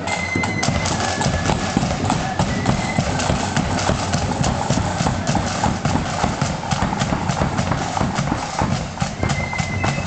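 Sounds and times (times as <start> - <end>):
crowd noise: 0.0 - 10.0
marching footsteps on tarmac: 0.0 - 10.0.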